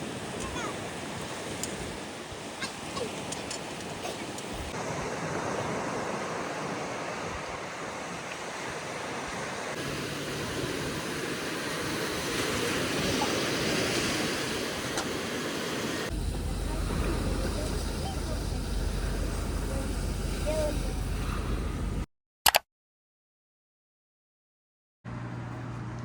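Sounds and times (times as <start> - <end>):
sea waves washing onto shore: 0.0 - 22.1.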